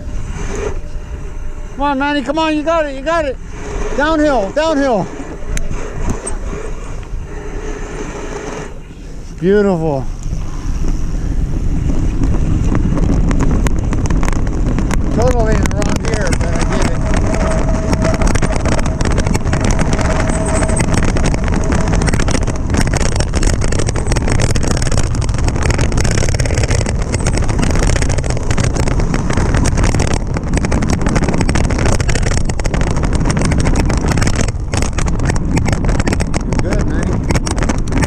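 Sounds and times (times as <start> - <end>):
bike tyres rolling and rattling: 0.0 - 38.0
thin steady whine: 0.0 - 38.0
wind rushing over microphone: 0.0 - 38.0.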